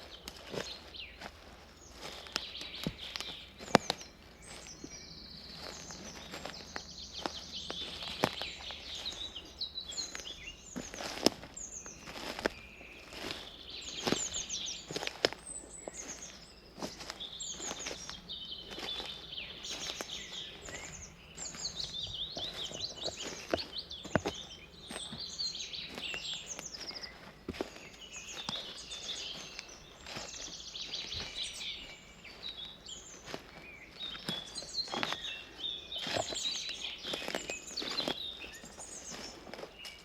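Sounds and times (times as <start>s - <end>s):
footsteps on a path: 0.0s - 40.0s
songbirds singing and chirping: 0.0s - 40.0s.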